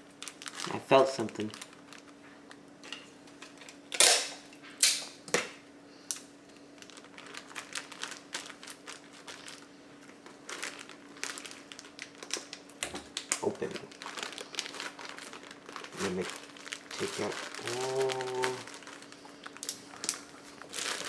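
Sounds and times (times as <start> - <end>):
plastic and biscuits crunching: 0.0 - 2.6, 6.1 - 21.0.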